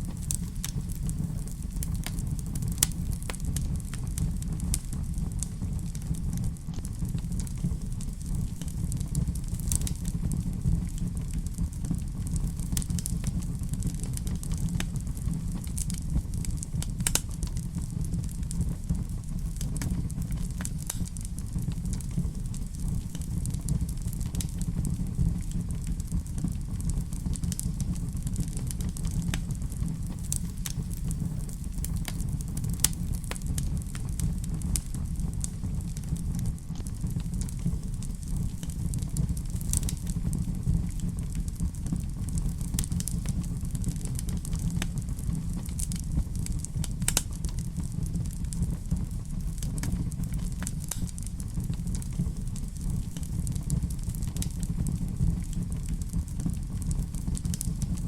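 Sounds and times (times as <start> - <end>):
fire rumbling in fireplace: 0.0 - 58.0
logs crackling and popping: 0.0 - 58.0.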